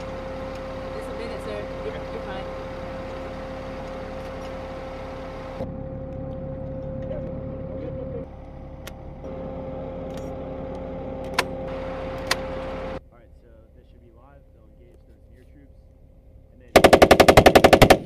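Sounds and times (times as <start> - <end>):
diesel engine idling: 0.0 - 17.8
engine whine: 0.0 - 18.0.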